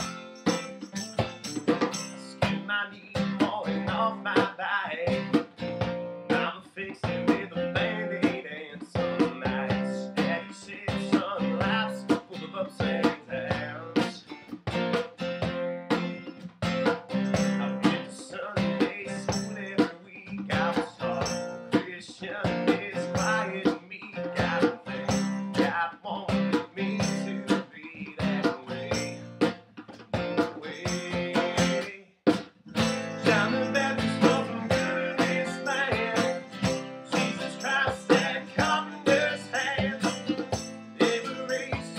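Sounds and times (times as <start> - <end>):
acoustic guitars strumming: 0.0 - 41.9
hand drum beat: 0.0 - 41.9
man singing: 1.9 - 5.6, 6.3 - 14.3, 17.4 - 29.3, 30.3 - 41.9.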